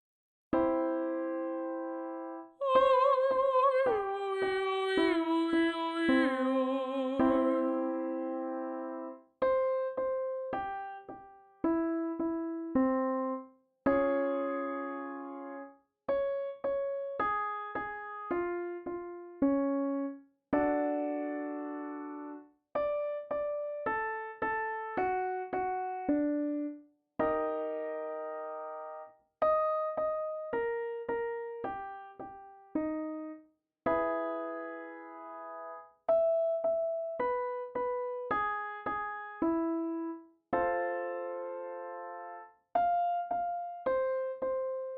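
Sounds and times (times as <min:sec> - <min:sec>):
piano notes and chords: 0:00.5 - 0:44.9.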